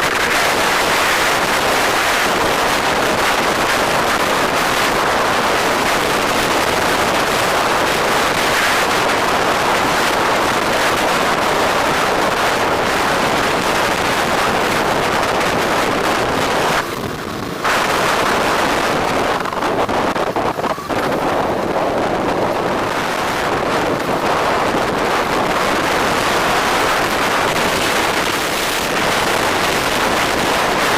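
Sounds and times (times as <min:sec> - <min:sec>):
road and traffic noise: 0:00.0 - 0:30.9
wind buffeting microphone: 0:00.0 - 0:30.9.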